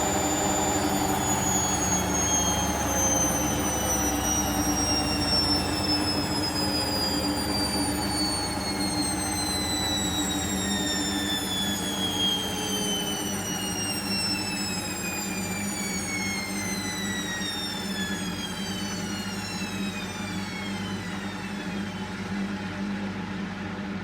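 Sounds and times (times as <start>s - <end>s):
washing machine spin slowing down: 0.0s - 24.0s.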